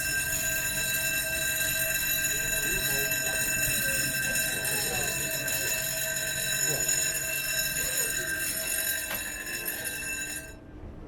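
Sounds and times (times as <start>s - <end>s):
bridge alarm ringing tone: 0.0s - 10.6s
faint voices: 0.0s - 10.6s.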